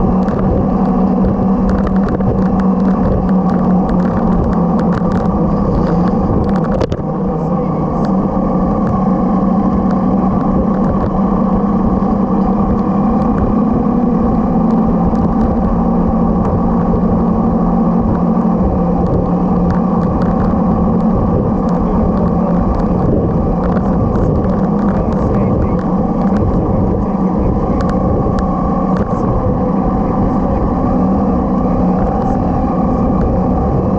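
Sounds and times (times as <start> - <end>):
motorcycle engine running: 0.0 - 33.9
wind and road noise: 0.0 - 33.9.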